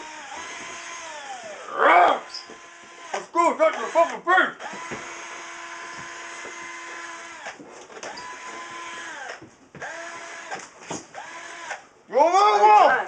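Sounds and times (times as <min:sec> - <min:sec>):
small electric motor spinning: 0:00.0 - 0:11.8.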